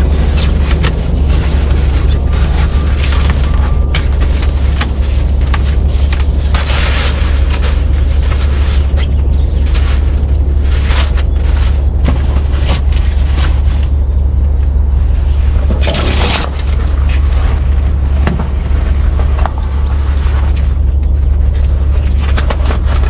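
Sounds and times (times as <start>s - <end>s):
heavy rain drumming on a truck cab: 0.0s - 23.0s
low rumble: 0.0s - 23.0s.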